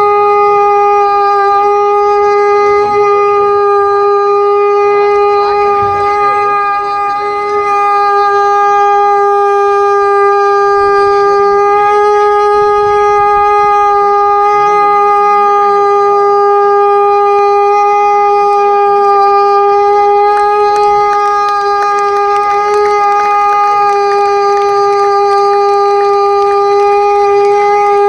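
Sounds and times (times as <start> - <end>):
conch shell blown: 0.0 - 28.0.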